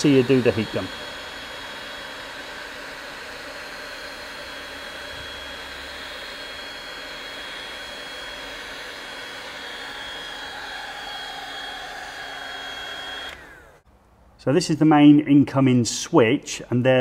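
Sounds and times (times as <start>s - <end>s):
heat gun blowing with high whine: 0.0s - 13.9s.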